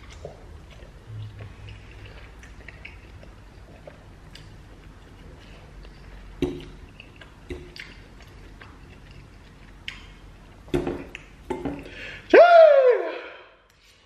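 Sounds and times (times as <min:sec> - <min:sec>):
man chewing: 0:00.0 - 0:12.0.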